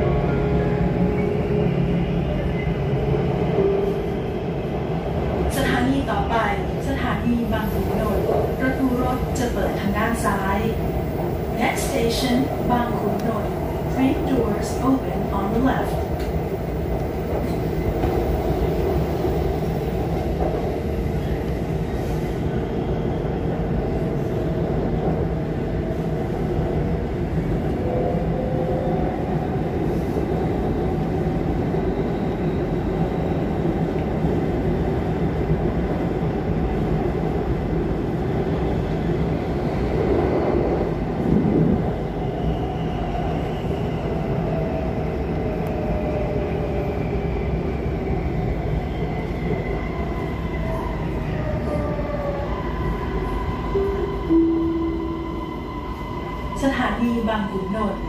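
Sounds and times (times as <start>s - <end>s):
metro train rumble: 0.0s - 58.0s.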